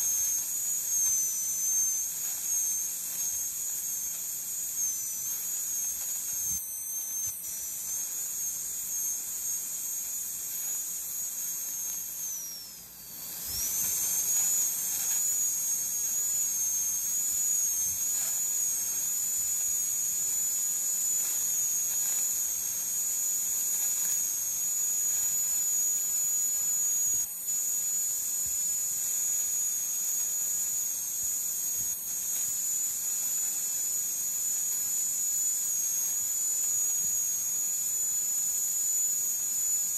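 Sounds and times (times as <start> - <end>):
dental drill whining: 0.0 - 39.9.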